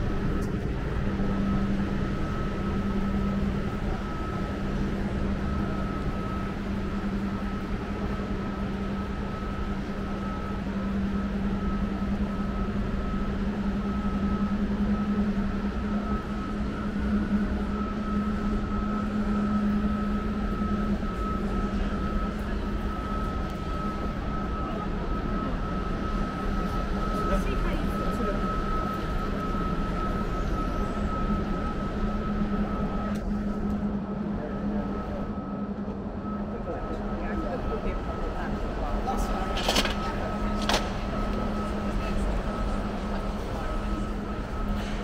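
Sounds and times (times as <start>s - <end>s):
city noise: 0.0s - 45.0s
low mechanical drone: 0.0s - 45.0s
thin high whine: 0.0s - 45.0s.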